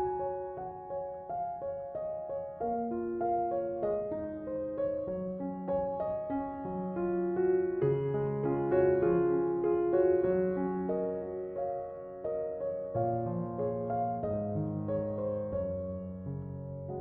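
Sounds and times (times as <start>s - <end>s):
slow relaxing piano music: 0.0s - 17.0s.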